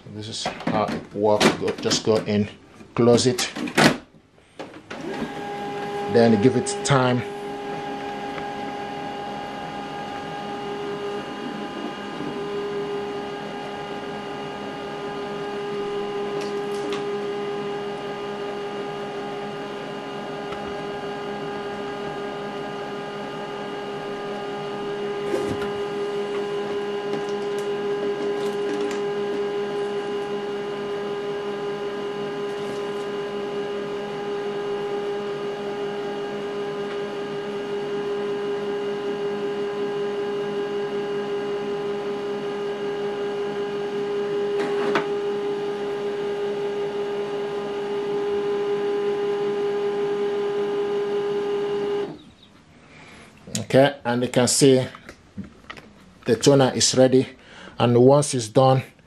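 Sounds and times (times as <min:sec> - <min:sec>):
printer motor whine: 0:04.9 - 0:52.6.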